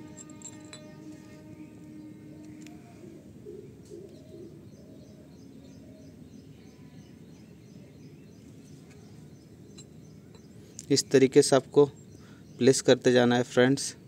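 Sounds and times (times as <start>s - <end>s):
distant birds calling: 0.0s - 14.0s.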